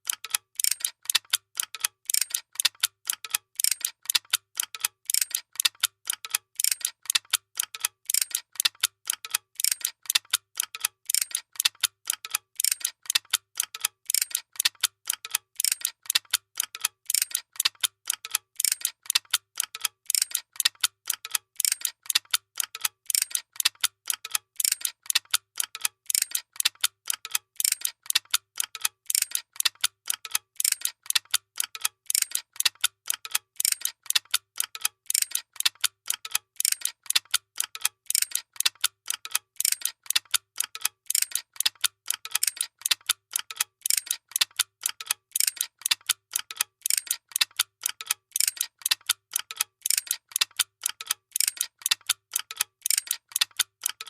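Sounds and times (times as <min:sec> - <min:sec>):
machine clicking rhythmically: 0:00.0 - 0:54.0.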